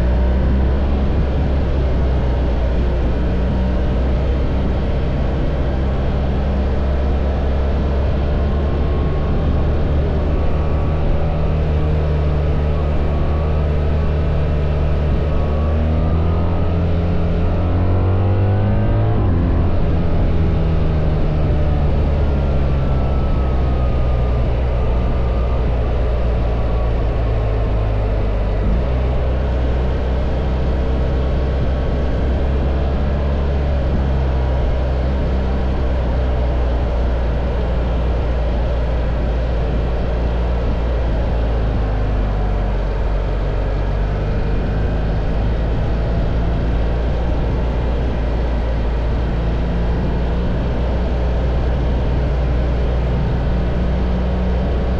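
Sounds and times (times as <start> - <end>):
motorcycle engine running: 0.0 - 54.9
road and wind noise: 0.0 - 54.9.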